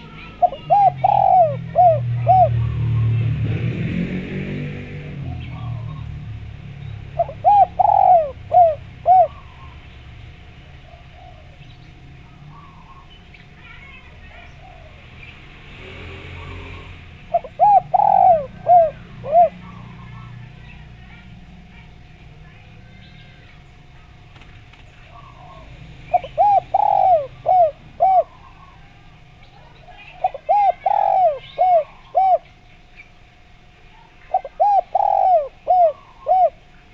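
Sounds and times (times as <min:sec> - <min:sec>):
dove cooing: 0:00.0 - 0:36.9
faint birdsong: 0:00.0 - 0:36.9.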